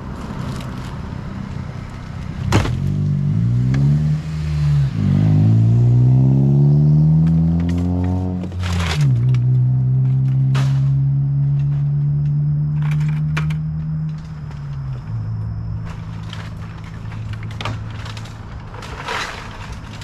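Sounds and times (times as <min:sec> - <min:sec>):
vehicle engine accelerating: 0:00.0 - 0:18.6.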